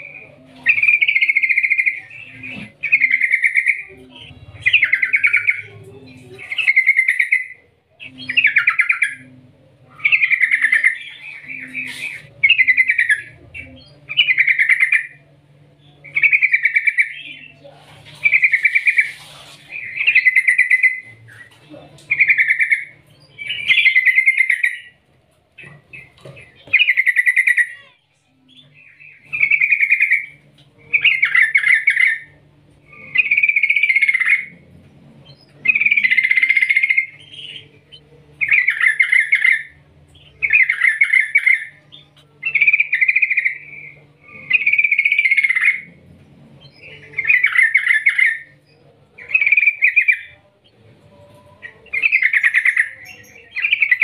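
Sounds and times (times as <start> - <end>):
bulbul song: 0.0 - 54.0.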